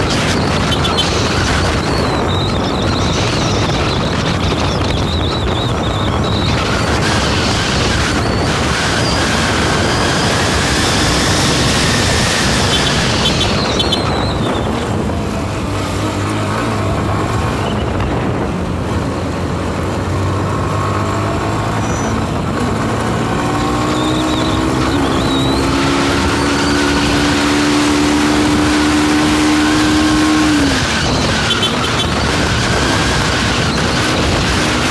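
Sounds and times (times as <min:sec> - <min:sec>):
road and wind noise: 0:00.0 - 0:34.9.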